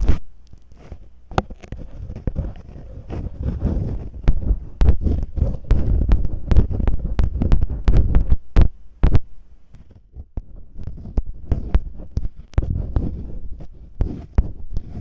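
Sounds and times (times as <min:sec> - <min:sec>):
masking tape rubbing on microphone: 0:00.0 - 0:15.0.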